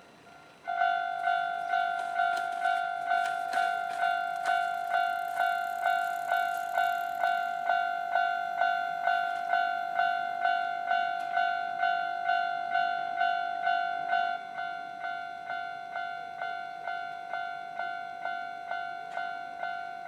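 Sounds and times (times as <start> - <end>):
crossing warning bell ringing: 0.0 - 20.0.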